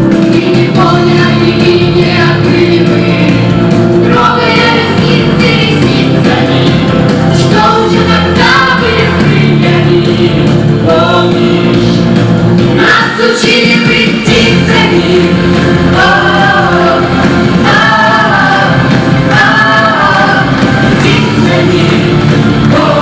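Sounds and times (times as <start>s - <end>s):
group singing in chorus: 0.0s - 23.0s
instrumental accompaniment: 0.0s - 23.0s.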